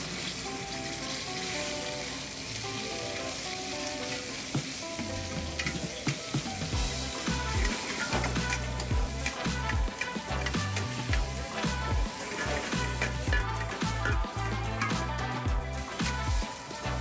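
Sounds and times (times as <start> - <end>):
background music: 0.0 - 17.0
beef sizzling in hot oil: 0.0 - 17.0
metal tongs clicking on pan: 2.5 - 6.4, 7.1 - 16.9.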